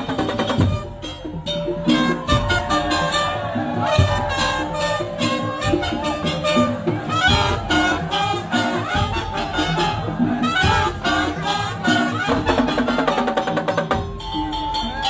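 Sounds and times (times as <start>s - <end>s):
lively band music: 0.0s - 15.0s.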